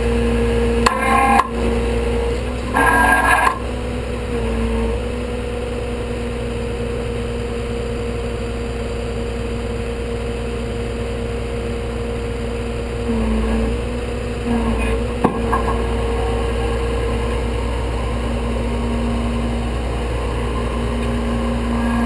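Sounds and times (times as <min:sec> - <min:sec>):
tow truck engine idling: 0:00.0 - 0:22.0.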